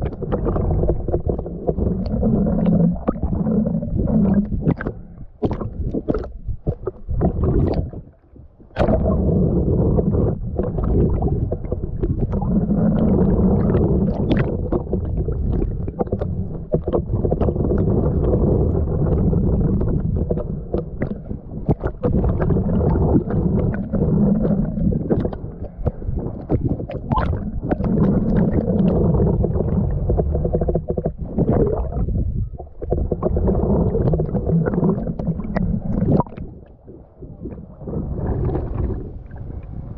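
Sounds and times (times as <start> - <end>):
muffled water sloshing underwater: 0.0 - 39.9.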